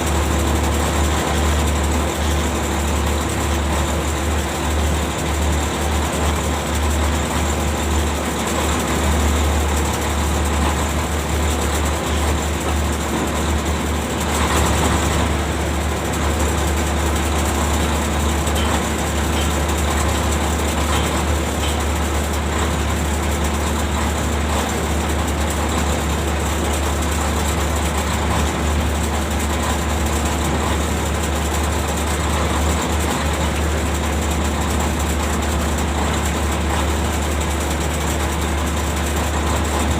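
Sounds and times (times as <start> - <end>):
deck machinery humming: 0.0 - 39.9.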